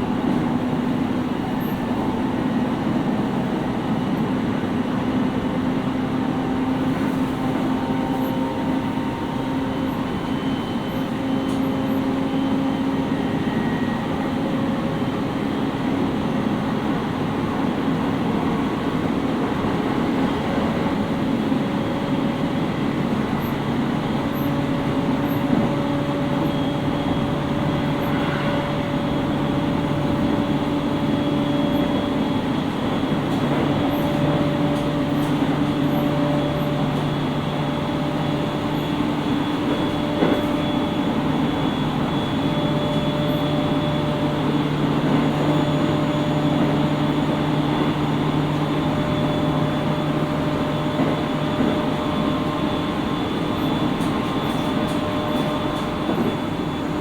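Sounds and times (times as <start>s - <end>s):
train drive humming tones: 0.0s - 57.0s
train wheels rumbling on rail: 0.0s - 57.0s.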